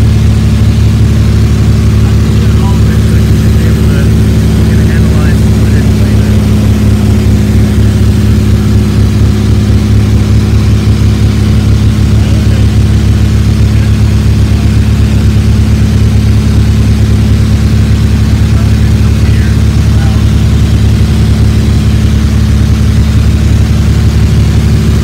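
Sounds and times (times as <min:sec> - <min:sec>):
aircraft engine drone in cabin: 0:00.0 - 0:25.0.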